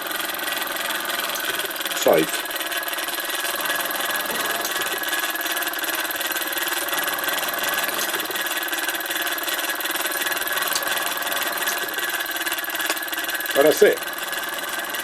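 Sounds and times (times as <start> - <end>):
model steam engine running: 0.0 - 15.0.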